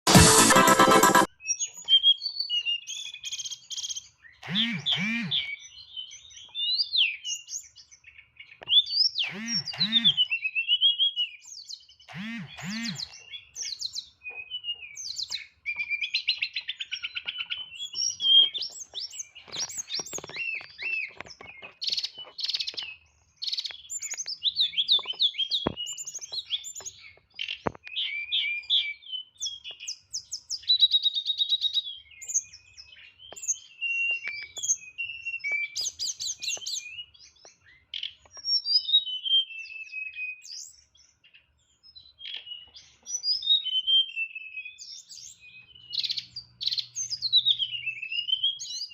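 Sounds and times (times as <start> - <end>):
songbird singing: 1.3 - 48.9.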